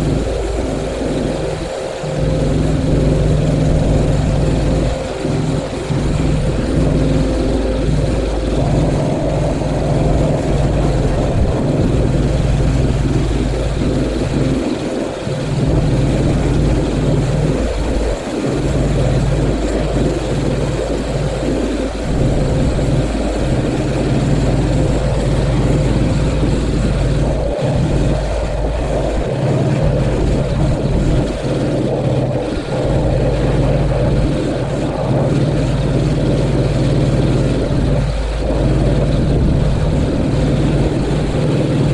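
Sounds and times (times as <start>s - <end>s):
pressure washer motor drone: 0.0s - 41.9s.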